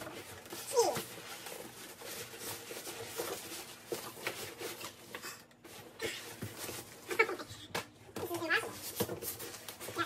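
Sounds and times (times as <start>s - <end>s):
styrofoam and cardboard scraping: 0.0s - 7.5s, 8.2s - 10.0s
plastic rustling: 0.0s - 10.0s.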